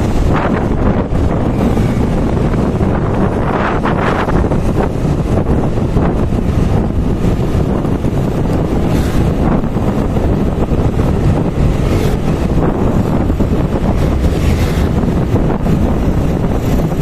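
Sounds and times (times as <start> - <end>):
motorbike engine: 0.0 - 17.0
road noise: 0.0 - 17.0
wind buffeting microphone: 0.0 - 17.0.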